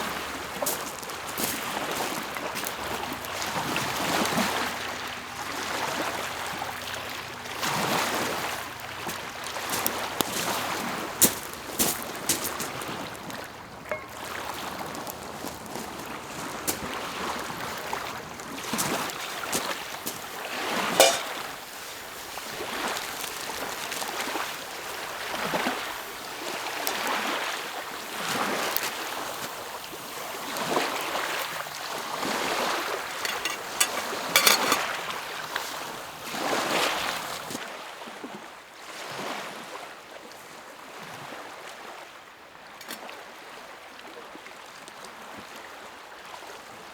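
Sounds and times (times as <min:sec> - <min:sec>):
waves lapping against shore: 0:00.0 - 0:46.9.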